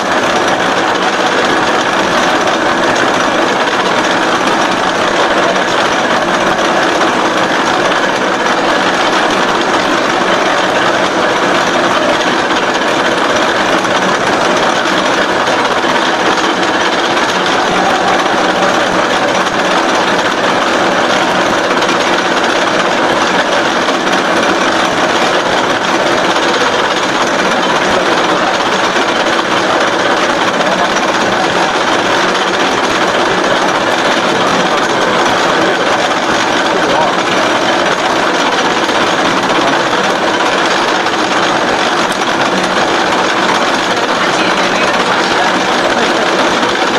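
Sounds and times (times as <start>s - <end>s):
bevelling machine running: 0.0s - 46.9s.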